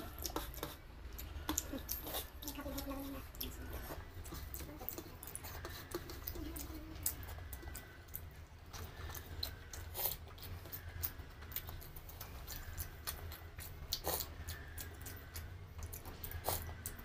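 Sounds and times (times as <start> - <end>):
chewing with mouth clicks: 0.0 - 17.0
steady low hum: 0.0 - 17.0.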